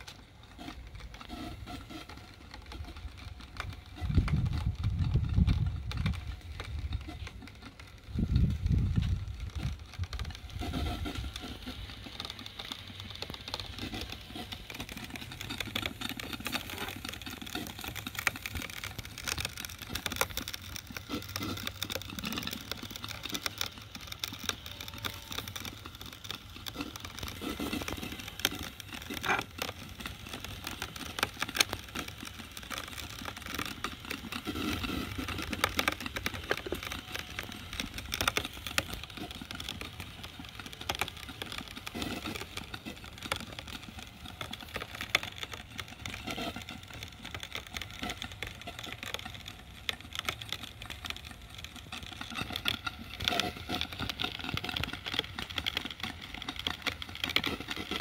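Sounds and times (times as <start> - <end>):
model steam engine running: 0.0 - 58.0.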